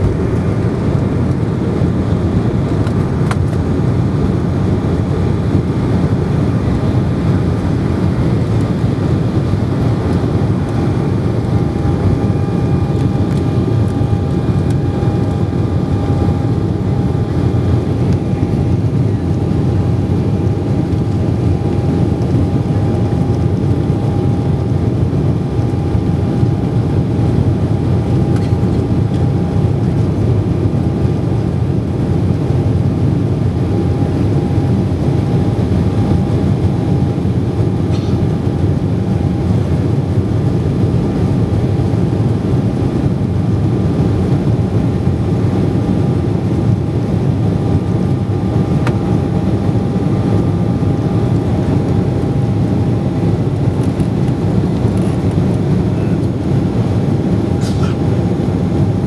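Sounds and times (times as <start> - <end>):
jet engine roar in cabin: 0.0 - 59.0
steady whine: 0.0 - 59.0.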